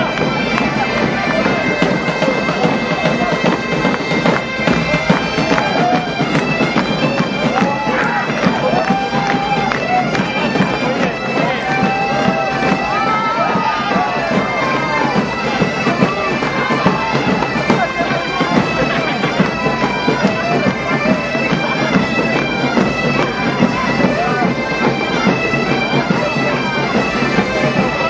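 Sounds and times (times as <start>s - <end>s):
bagpipes playing over drones: 0.0s - 28.0s
drums beating: 0.0s - 28.0s.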